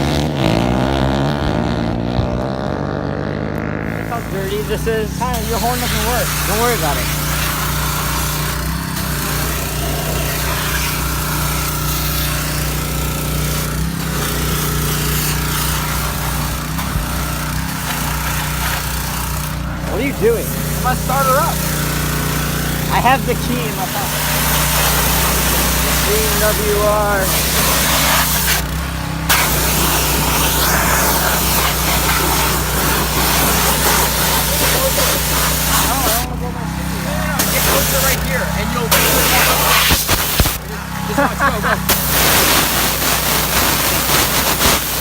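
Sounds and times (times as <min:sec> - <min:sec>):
pit bike engine running: 0:00.0 - 0:45.0
loud hiss: 0:04.0 - 0:45.0.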